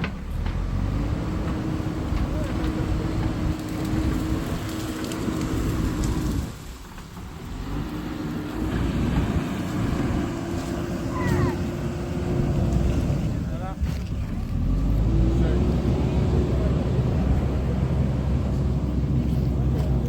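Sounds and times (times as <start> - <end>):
excavator diesel engine: 0.0 - 20.0.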